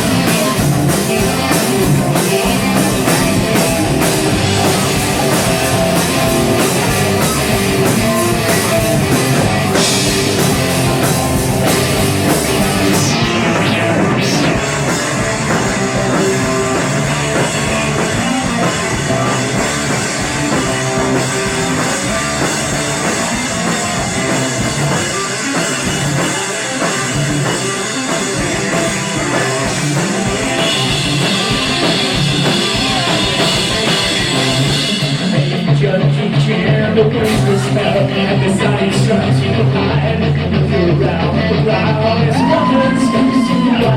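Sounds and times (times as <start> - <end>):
drum kit with cymbals: 0.0 - 39.1
bass guitar: 0.0 - 43.9
electric guitars: 0.0 - 43.9.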